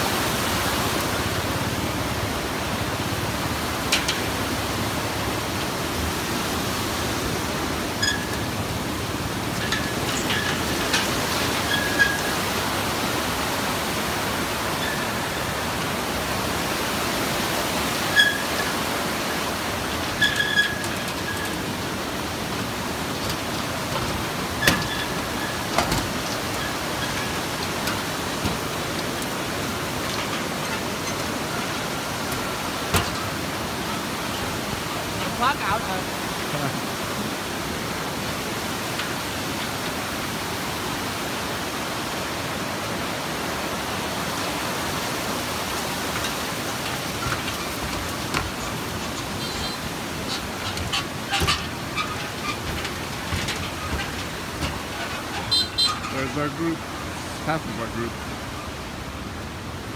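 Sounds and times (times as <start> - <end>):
river rushing over boulders: 0.0 - 59.9.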